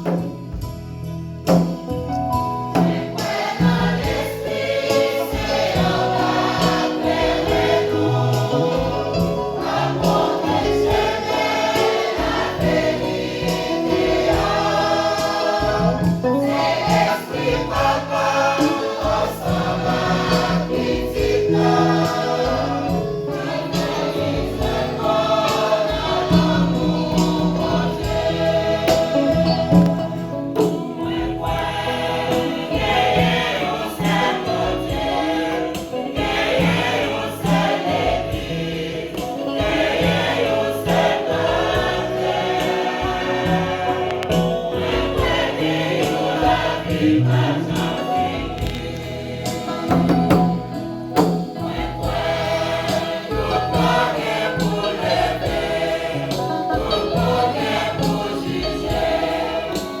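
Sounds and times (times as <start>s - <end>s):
church choir singing a hymn: 0.0s - 60.0s
steady beat: 2.8s - 60.0s.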